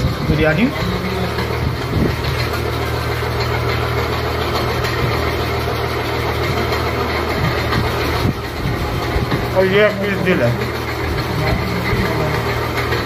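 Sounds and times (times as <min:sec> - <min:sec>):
motor humming and hissing: 0:00.0 - 0:13.0.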